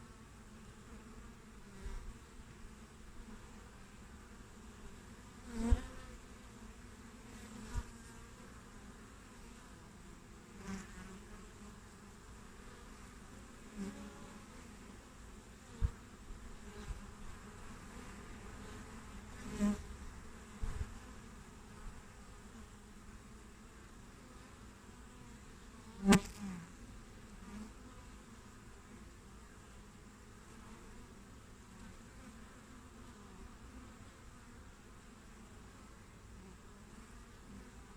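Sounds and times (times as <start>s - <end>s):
bee colony humming: 0.0s - 37.9s
bees flying past: 0.0s - 37.9s.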